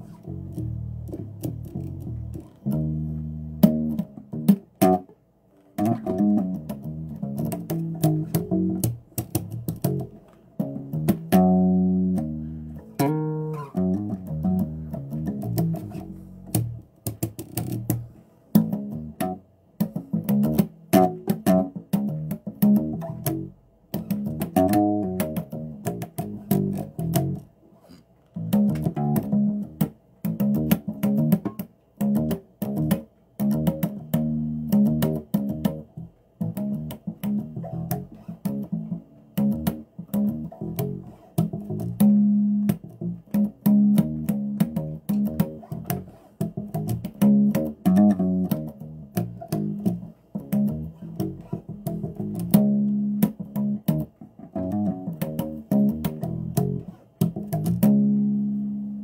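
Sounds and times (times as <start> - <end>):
plucked bass guitar notes: 0.0 - 27.5, 28.3 - 59.0.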